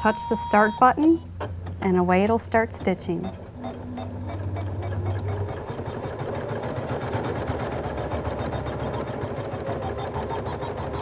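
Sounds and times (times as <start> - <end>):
embroidery machine stitching: 0.0 - 11.0.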